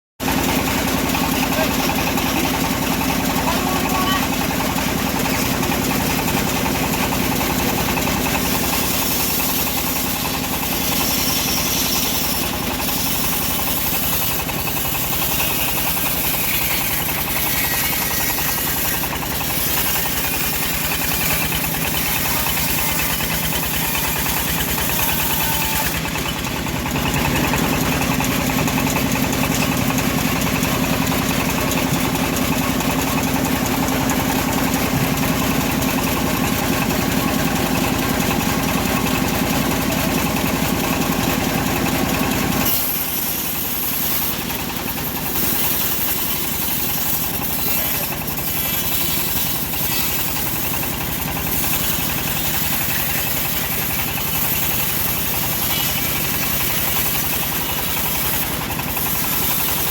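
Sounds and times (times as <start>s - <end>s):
sawmill engine sawing log: 0.2s - 59.9s.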